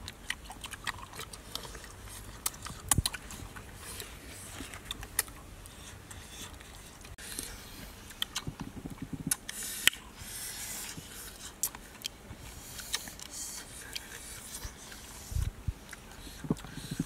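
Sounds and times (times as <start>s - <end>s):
wet chewing and lip smacks: 0.0s - 17.0s.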